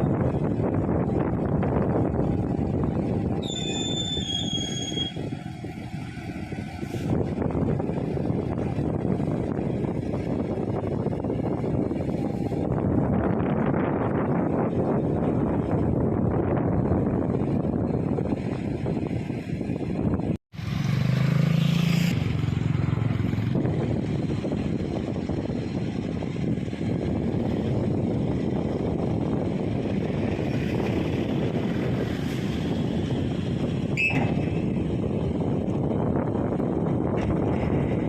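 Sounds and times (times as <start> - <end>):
engine running: 0.0 - 38.0
wind noise on microphone: 0.0 - 38.0.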